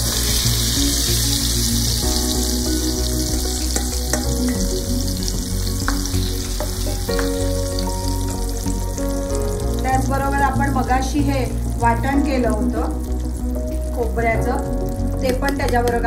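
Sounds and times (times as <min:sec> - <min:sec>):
background music: 0:00.0 - 0:16.0
food sizzling in hot oil: 0:00.0 - 0:16.0.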